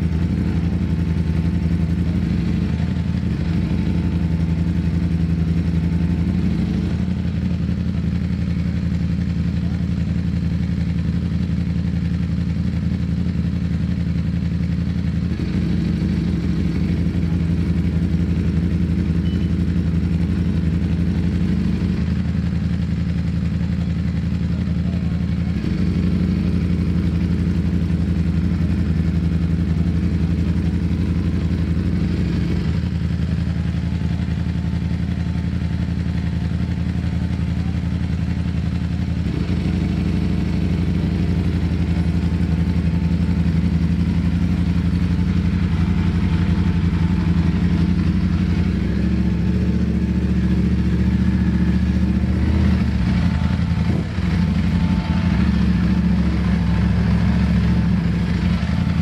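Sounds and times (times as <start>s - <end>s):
motorcycle engine at low revs: 0.0s - 59.0s.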